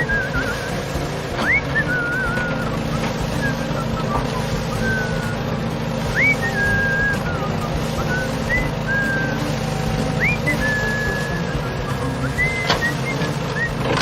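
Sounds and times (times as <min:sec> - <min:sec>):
high whistled notes: 0:00.0 - 0:14.0
steady engine-like hum: 0:00.0 - 0:14.0.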